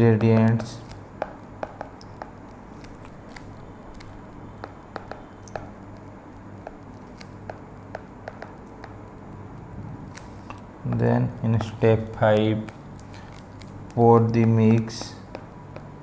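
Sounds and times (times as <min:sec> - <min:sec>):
stylus tapping on tablet screen: 0:00.0 - 0:09.3, 0:10.2 - 0:16.0
faint low hum: 0:00.0 - 0:16.0.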